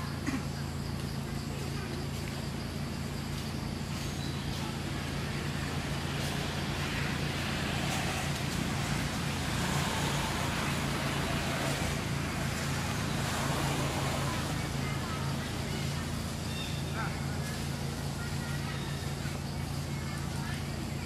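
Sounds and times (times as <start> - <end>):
low engine hum: 0.0 - 21.0
traffic hiss: 0.0 - 21.0.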